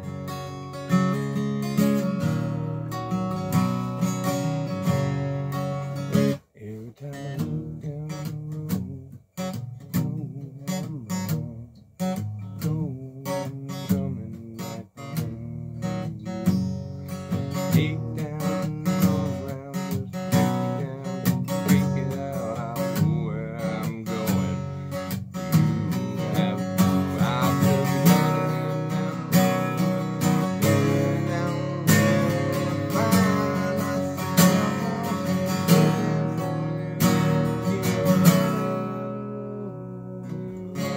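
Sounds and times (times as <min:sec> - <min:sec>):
acoustic guitar riff: 0:00.0 - 0:40.9.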